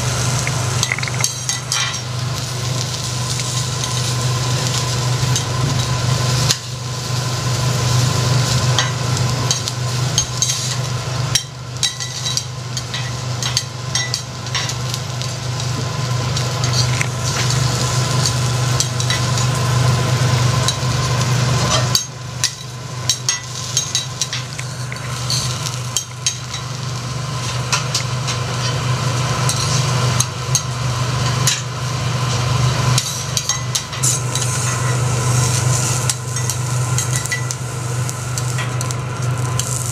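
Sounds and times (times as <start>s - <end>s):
prawns sizzling on a griddle: 0.0s - 39.9s
steady low hum: 0.0s - 39.9s.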